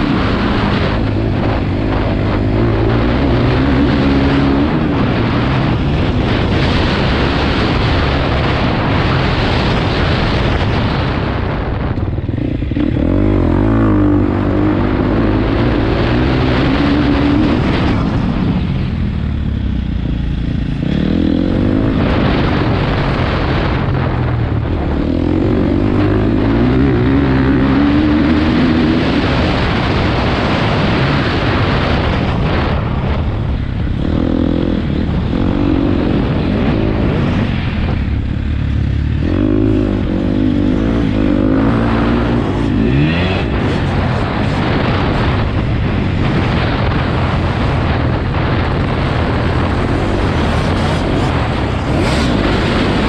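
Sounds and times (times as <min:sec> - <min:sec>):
dirt bike engine revving: 0:00.0 - 0:53.0
wind rush on microphone: 0:00.0 - 0:53.0.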